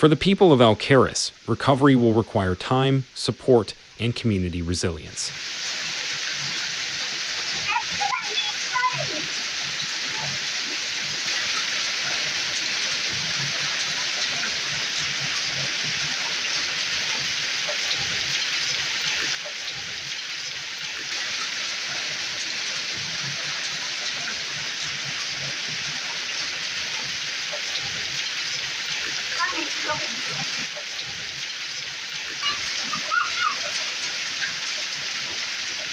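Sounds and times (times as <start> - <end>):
hail and rain pelting: 0.0 - 35.9.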